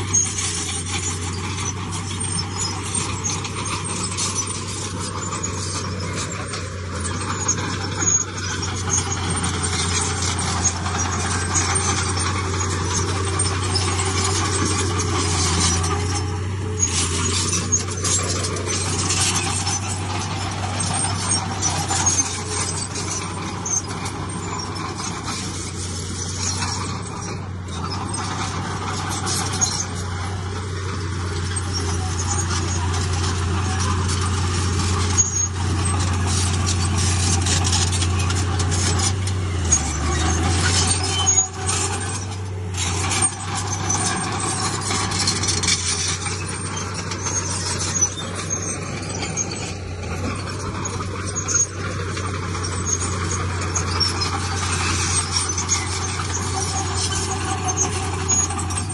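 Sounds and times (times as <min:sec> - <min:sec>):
heavy diesel engine running: 0:00.0 - 0:58.9
metallic squeals and clanks: 0:00.0 - 0:58.9.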